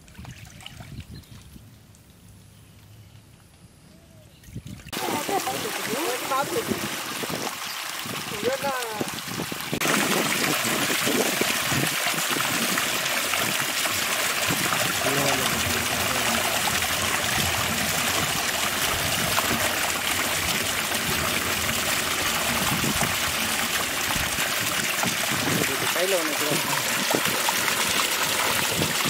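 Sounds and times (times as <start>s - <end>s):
water running: 4.9s - 29.0s.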